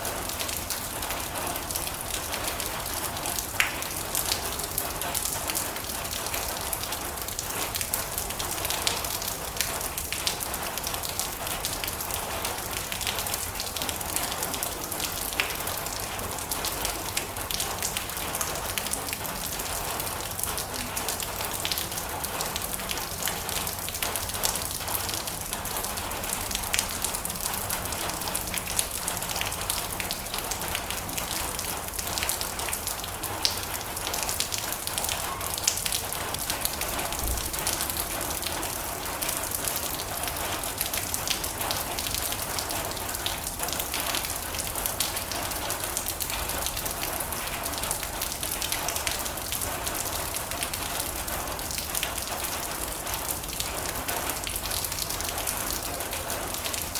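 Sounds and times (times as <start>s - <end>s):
rain on a metal roof: 0.0s - 56.9s.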